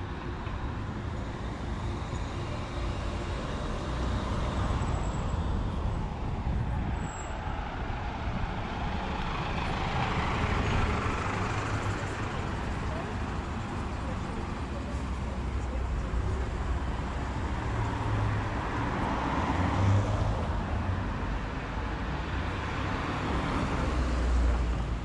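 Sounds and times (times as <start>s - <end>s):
bus passing close by: 0.0s - 25.0s
cars passing rumble: 0.0s - 25.0s.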